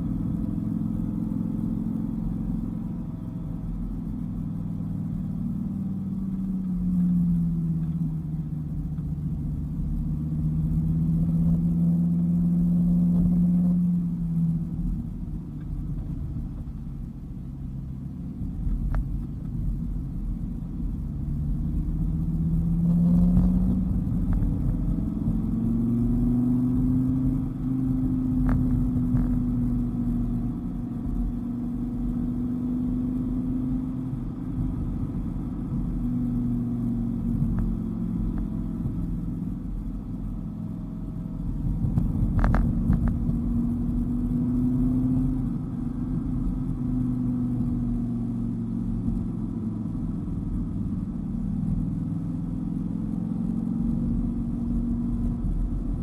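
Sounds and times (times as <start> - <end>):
car engine running: 0.0 - 56.0
low road rumble: 0.0 - 56.0.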